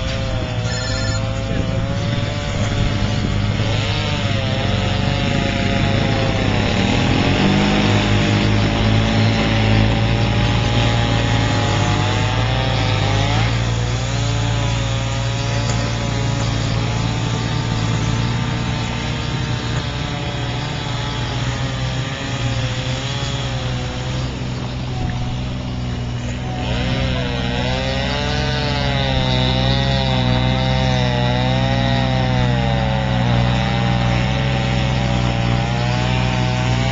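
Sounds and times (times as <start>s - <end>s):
chainsaw cutting ice: 0.0s - 36.9s.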